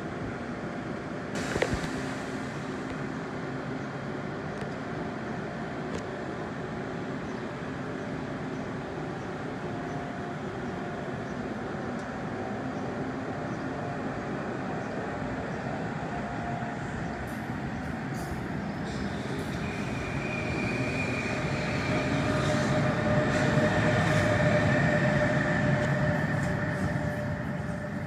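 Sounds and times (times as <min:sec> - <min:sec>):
train rumbling along track: 0:00.0 - 0:28.0.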